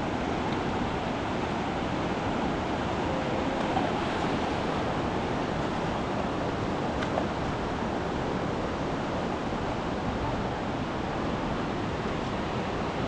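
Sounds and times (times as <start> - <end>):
rushing flooded river: 0.0 - 13.0.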